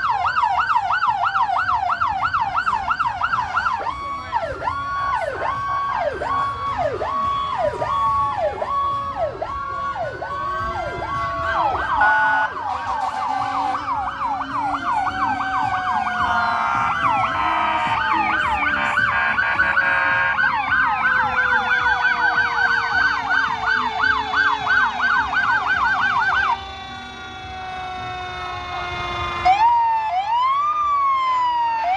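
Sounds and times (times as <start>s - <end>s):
fast yelping sirens: 0.0s - 31.9s
wailing sirens: 0.0s - 31.9s.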